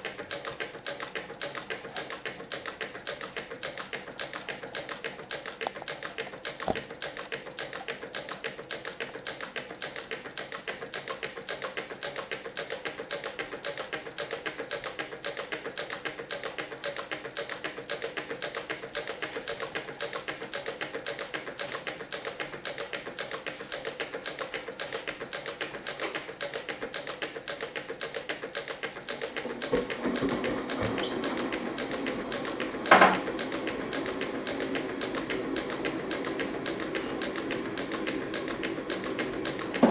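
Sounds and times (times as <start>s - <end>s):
model engine clatter of clicks: 0.0s - 39.9s.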